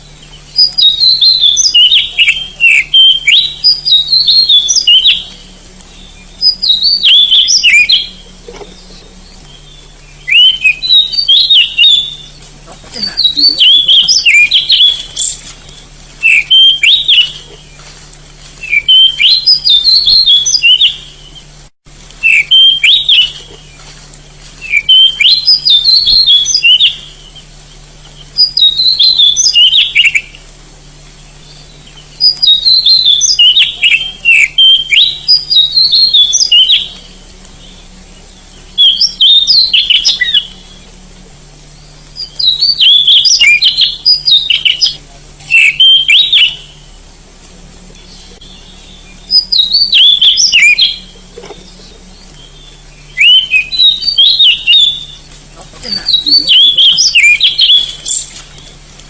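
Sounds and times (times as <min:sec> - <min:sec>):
magpie-robin singing: 0:00.0 - 0:18.0, 0:18.6 - 0:21.6, 0:22.2 - 0:30.5, 0:31.2 - 0:47.2, 0:47.8 - 0:58.8
faint steady low hum: 0:00.0 - 0:59.0.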